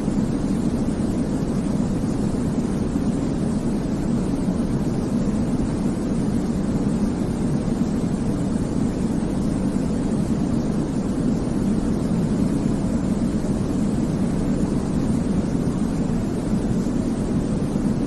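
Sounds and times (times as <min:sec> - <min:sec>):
deep white noise rumble: 0:00.0 - 0:18.0.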